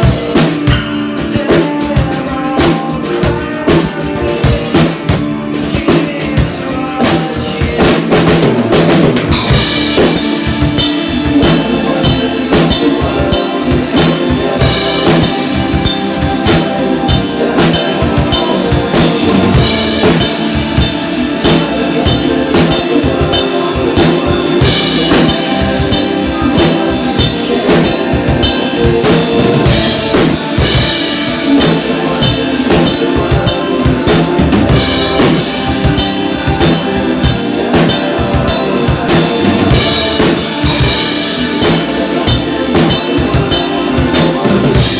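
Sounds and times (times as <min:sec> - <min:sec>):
music with drum kit beat: 0:00.0 - 0:44.9.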